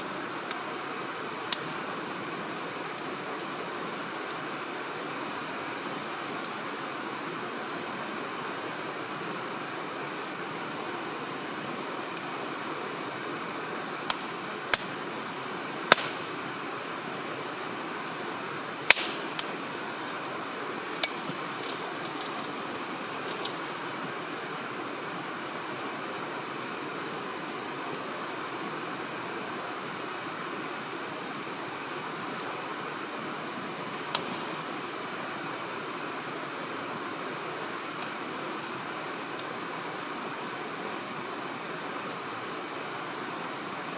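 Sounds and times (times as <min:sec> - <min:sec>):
campfire crackles and pops: 0:00.0 - 0:43.9
steady rushing hiss: 0:00.0 - 0:43.9.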